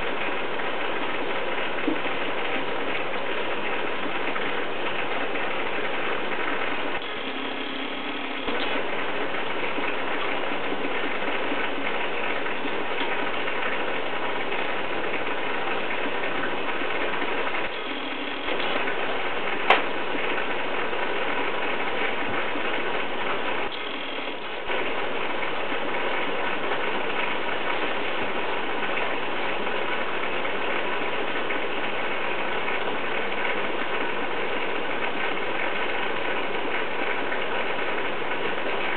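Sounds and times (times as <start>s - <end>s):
aquarium air pump buzzing: 0.0s - 38.9s.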